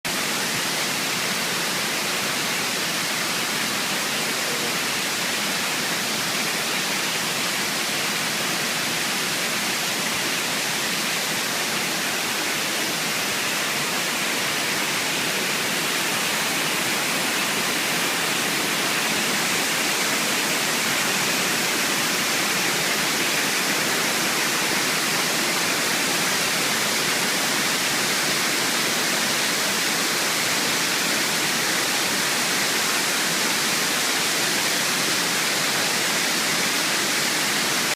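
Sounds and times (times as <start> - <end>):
waterfall crashing: 0.0 - 37.9.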